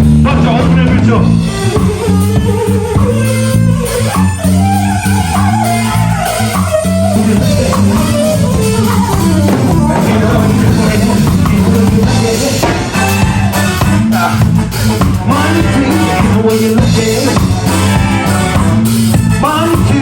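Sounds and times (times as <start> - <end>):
bass line: 0.0 - 20.0
drums: 0.0 - 20.0
guitar melody: 0.0 - 20.0.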